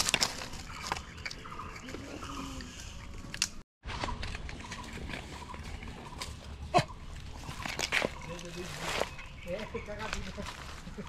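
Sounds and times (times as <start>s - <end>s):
monkeys rustling dry leaves: 0.0s - 11.0s
outdoor background noise: 0.0s - 11.0s.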